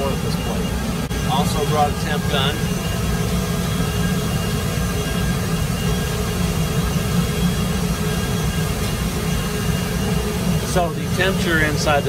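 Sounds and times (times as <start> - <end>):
power plant machinery roar: 0.0 - 12.0.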